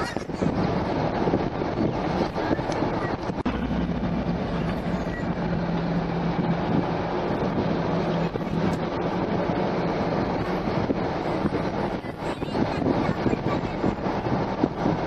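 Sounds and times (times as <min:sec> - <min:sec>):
low hum: 0:00.0 - 0:15.0
road traffic rumble and hiss: 0:00.0 - 0:15.0.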